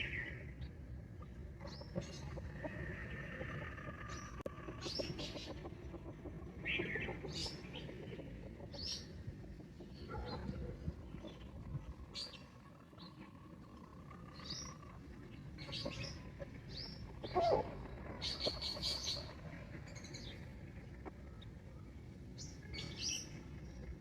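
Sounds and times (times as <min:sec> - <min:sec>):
hen calling: 0:01.6 - 0:21.5.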